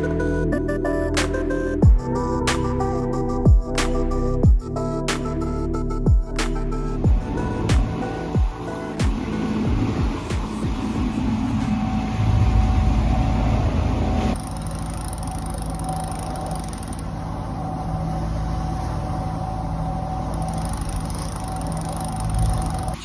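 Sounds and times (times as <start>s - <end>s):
boat engine drone: 0.0s - 23.0s.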